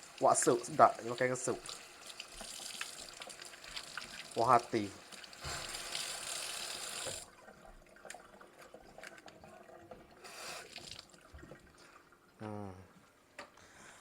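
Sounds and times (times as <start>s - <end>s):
kitchen tap running water: 0.0s - 11.8s.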